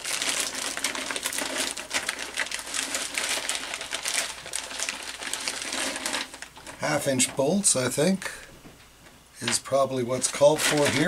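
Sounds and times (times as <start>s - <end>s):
plastic bag crinkling: 0.0s - 7.9s, 9.4s - 11.0s.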